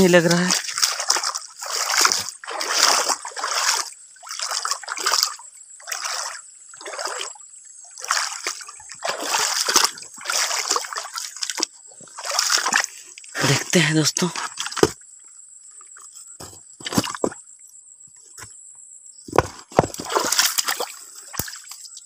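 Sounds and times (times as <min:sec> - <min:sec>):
footsteps splashing in stream: 0:00.0 - 0:15.0, 0:16.8 - 0:17.4, 0:19.8 - 0:22.0.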